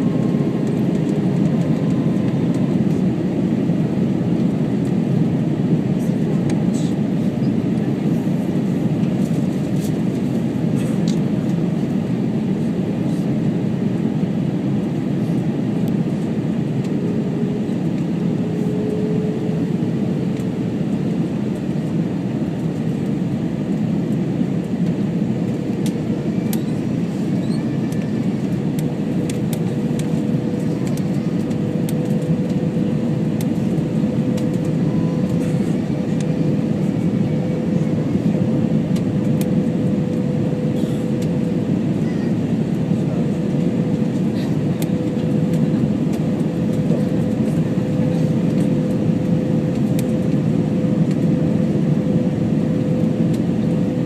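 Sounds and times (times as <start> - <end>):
airplane cabin noise: 0.0 - 54.0.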